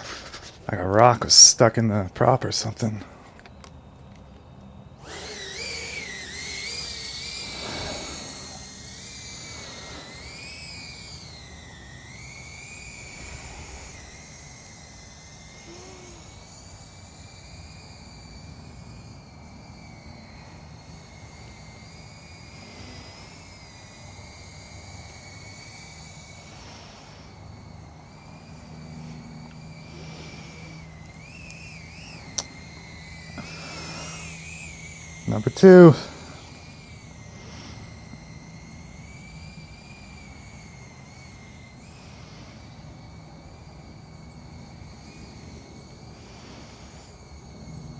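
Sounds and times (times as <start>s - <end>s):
quadcopter motors whining: 0.0s - 47.9s.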